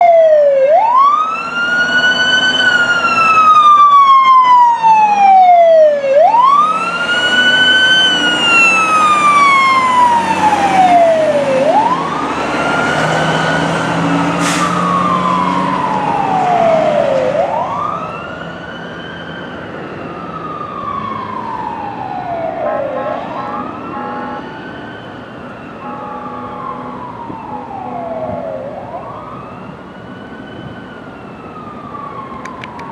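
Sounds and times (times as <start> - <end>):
fire truck siren wailing: 0.0 - 32.9.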